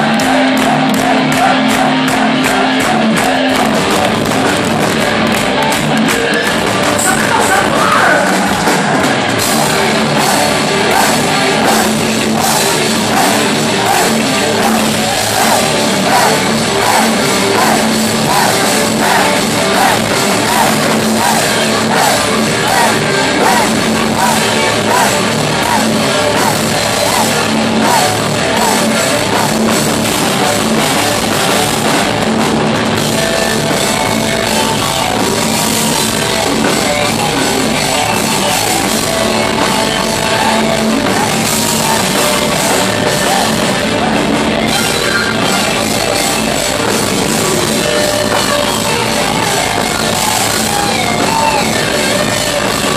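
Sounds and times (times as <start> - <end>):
fast repeating guitar figure: 0.0 - 52.9
heavy metal band playing: 0.0 - 52.9.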